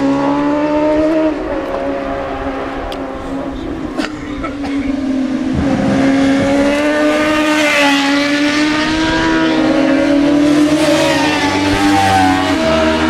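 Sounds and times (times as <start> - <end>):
superbike engine at high revs: 0.0 - 3.7, 4.9 - 13.0.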